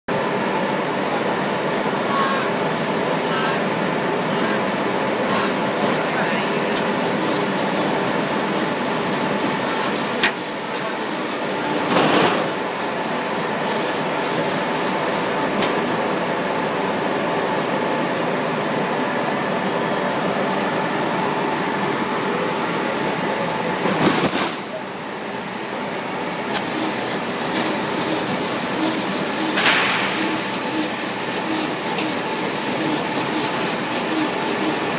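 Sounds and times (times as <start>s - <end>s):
laser machine running: 0.1s - 34.9s.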